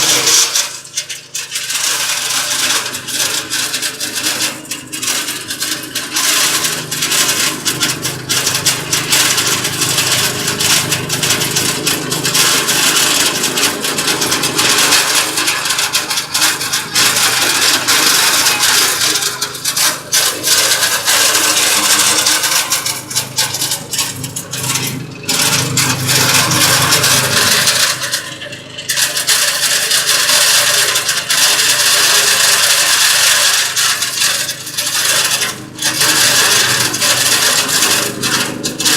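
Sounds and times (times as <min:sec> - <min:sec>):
motor hum: 0:00.0 - 0:38.9.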